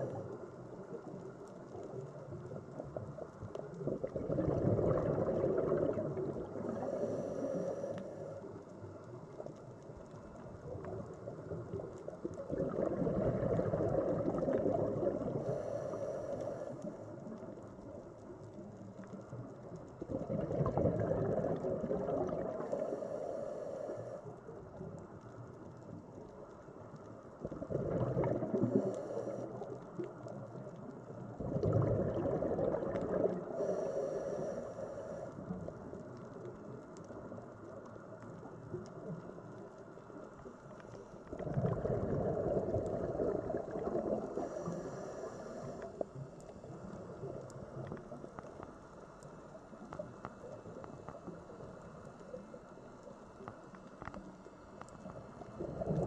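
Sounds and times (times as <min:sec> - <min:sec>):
exhaled bubbles gurgling: 0:00.0 - 0:56.0
low watery background: 0:00.0 - 0:56.0
faint regulator hiss: 0:05.3 - 0:13.0, 0:13.6 - 0:20.0, 0:21.2 - 0:27.5, 0:28.5 - 0:31.4, 0:32.7 - 0:41.4, 0:42.7 - 0:56.0.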